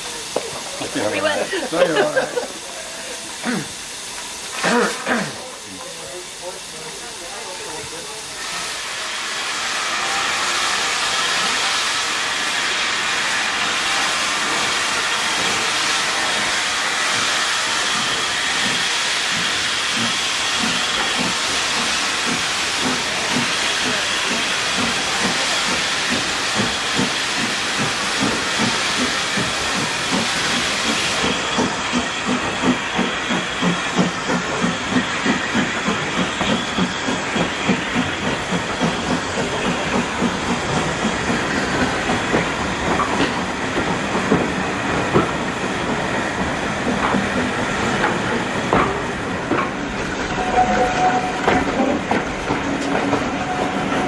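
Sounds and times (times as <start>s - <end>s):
locomotive steam hissing: 0.0s - 54.0s
steam locomotive chuffing beat: 0.0s - 54.0s.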